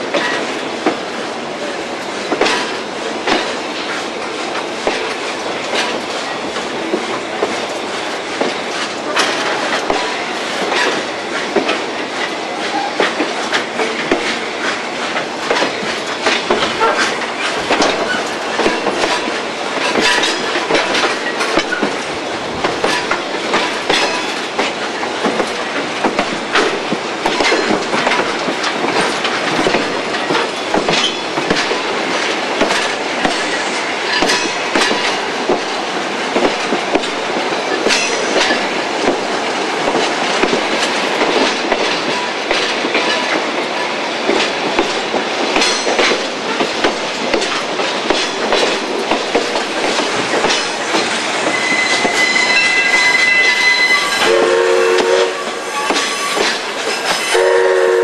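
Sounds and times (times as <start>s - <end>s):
train wheels clattering on track: 0.0s - 58.0s.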